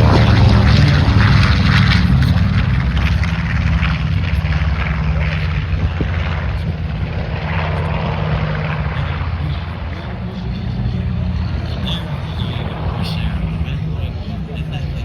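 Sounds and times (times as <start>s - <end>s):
piston engines droning: 0.0s - 15.0s.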